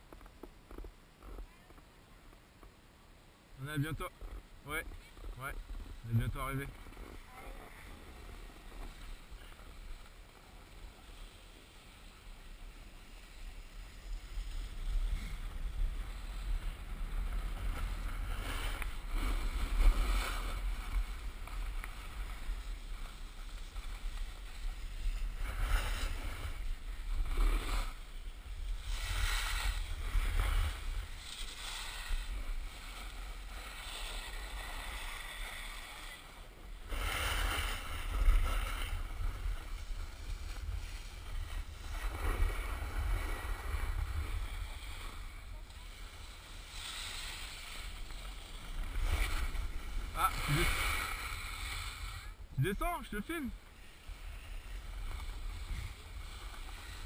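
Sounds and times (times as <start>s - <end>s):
skis scraping packed snow: 3.6s - 57.0s.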